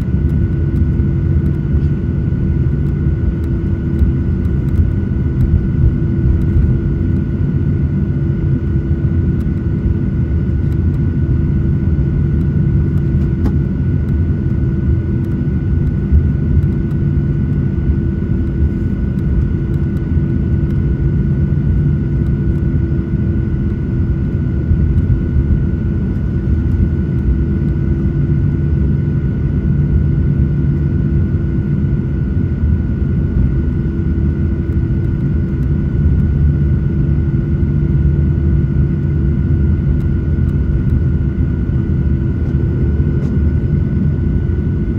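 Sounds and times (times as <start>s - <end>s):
constant hum: 0.0s - 44.9s
jet engine rumble in cabin: 0.0s - 44.9s.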